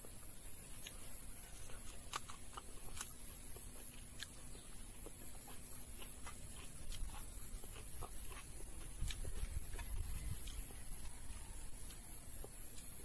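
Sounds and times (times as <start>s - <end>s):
faint steady hum: 0.0s - 13.0s
person chewing food: 0.0s - 13.0s.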